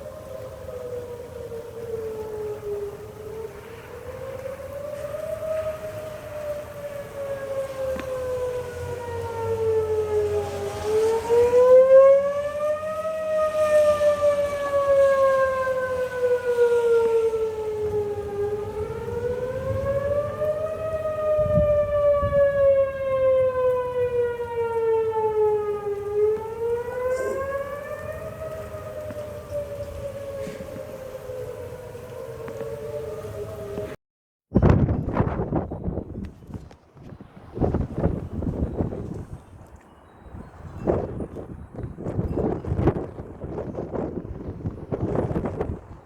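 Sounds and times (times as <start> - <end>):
warning siren wailing: 0.0 - 34.0, 35.6 - 46.0.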